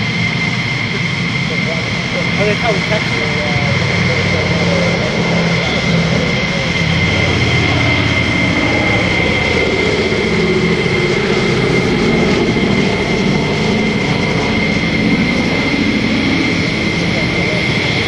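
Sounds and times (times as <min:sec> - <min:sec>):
propeller plane engines droning overhead: 0:00.0 - 0:18.0.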